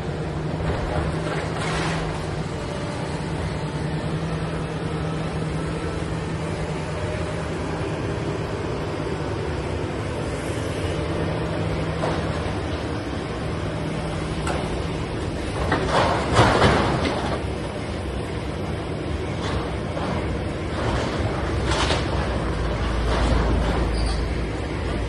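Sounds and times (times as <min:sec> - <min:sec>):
excavator diesel engine humming: 0:00.0 - 0:25.0.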